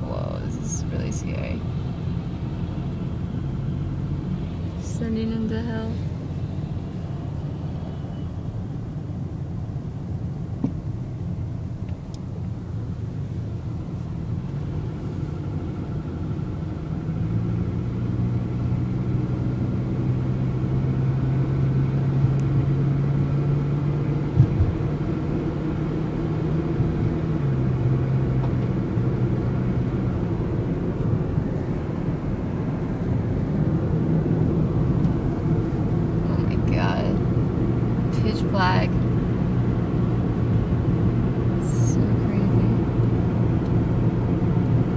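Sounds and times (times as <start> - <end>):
car engine and road rumble: 0.0 - 44.9
steady engine hum: 0.0 - 44.9.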